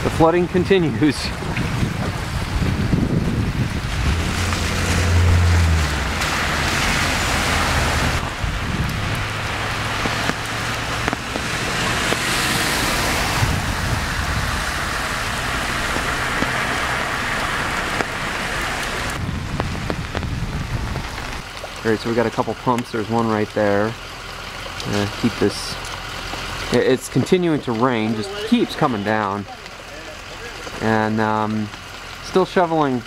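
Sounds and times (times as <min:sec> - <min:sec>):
car splashing through floodwater: 0:00.0 - 0:33.0
heavy rain on pavement: 0:00.0 - 0:33.0.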